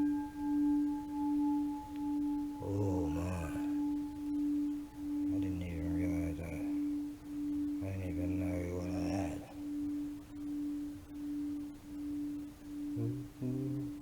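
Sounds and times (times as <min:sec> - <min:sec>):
lower wavering pitched sound: 0:00.0 - 0:14.0.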